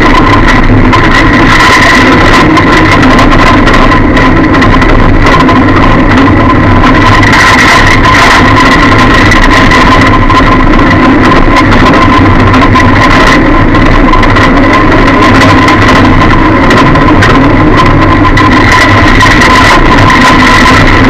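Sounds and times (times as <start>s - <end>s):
car engine running: 0.0s - 21.0s
steady high whine: 0.0s - 21.0s.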